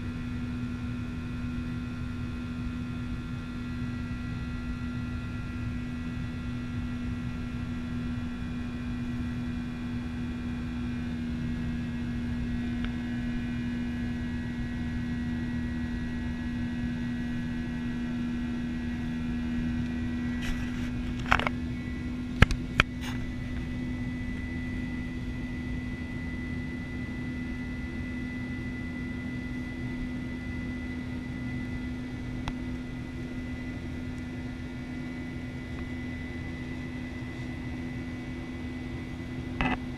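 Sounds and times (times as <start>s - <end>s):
airliner engine drone: 0.0s - 39.9s
faint high whine: 0.0s - 39.9s.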